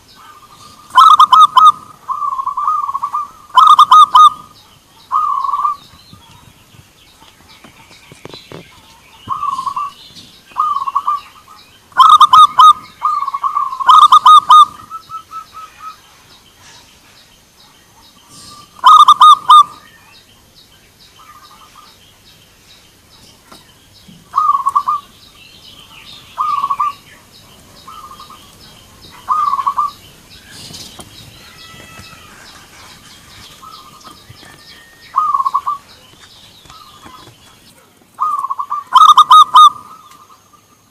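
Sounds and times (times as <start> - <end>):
doves cooing: 0.0 - 16.3, 18.0 - 19.9, 23.3 - 40.8.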